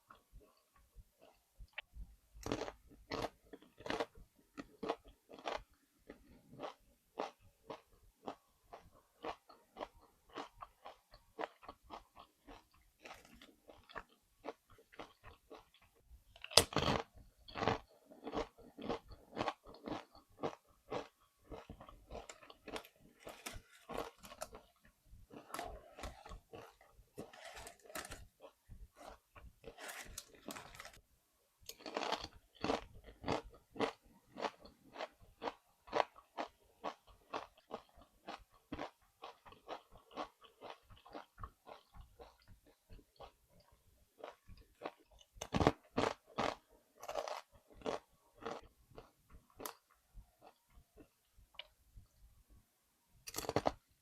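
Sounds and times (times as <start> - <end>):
chewing and crunching chips: 0.0 - 31.0, 31.7 - 51.8, 53.3 - 53.9.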